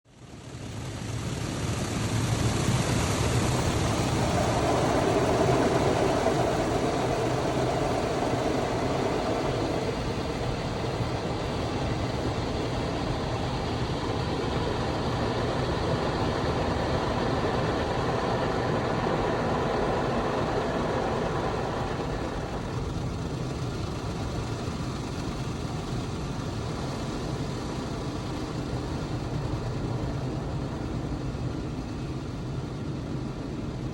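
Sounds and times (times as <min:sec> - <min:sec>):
low machine hum: 0:00.6 - 0:33.9.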